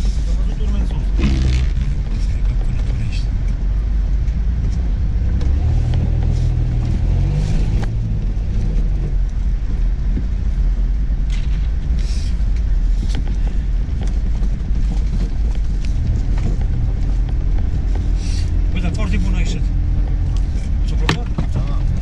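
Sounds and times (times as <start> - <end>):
body knocks and rattles: 0.0 - 22.0
vehicle engine rumbling: 0.0 - 22.0.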